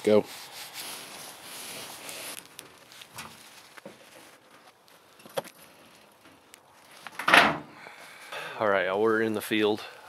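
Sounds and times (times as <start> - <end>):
faint rustling: 0.0 - 8.5.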